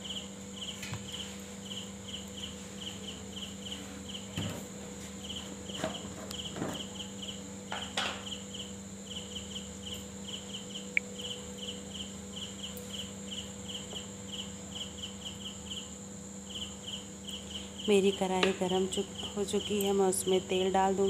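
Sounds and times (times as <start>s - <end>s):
cricket chirping: 0.0s - 4.6s, 5.2s - 20.7s
steady low hum: 0.0s - 21.0s.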